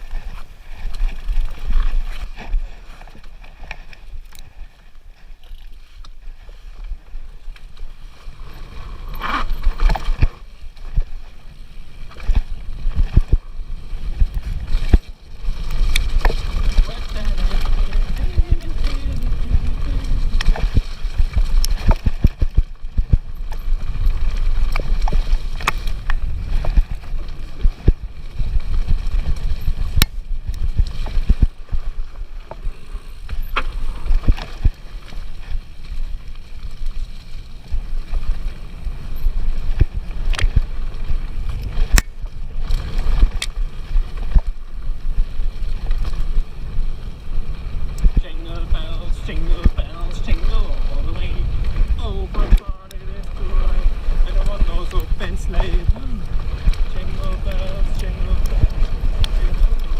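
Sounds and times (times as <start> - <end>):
bike knocking and rattling: 0.0 - 59.9
wind and tyres rumble: 0.0 - 59.9.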